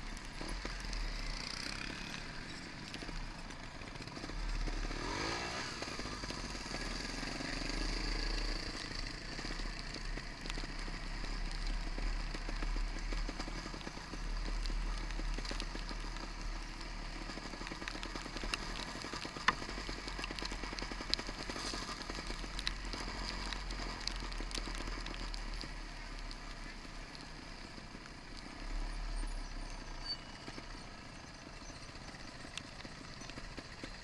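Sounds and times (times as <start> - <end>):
motorcycle engine at low revs: 0.0 - 34.0
sharp clicks and crackles: 0.0 - 34.0.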